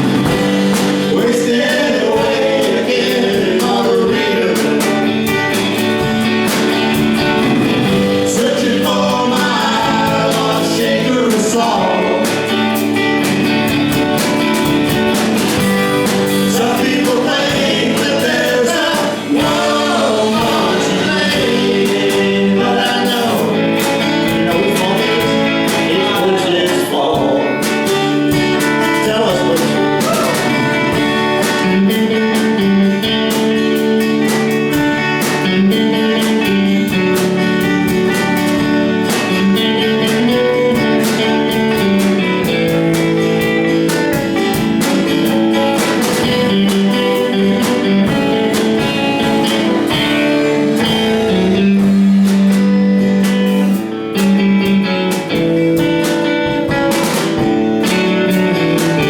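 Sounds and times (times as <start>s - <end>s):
live band playing: 0.0s - 59.0s
strummed guitar: 0.0s - 59.0s.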